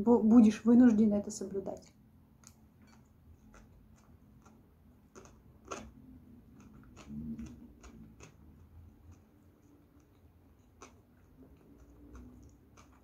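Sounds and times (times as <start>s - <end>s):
close-up chewing mouth clicks: 1.8s - 13.0s.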